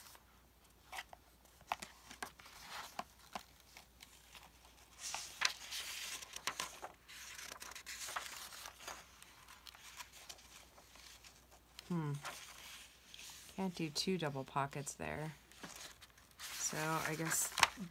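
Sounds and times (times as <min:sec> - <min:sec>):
book pages rustling: 0:00.0 - 0:17.9.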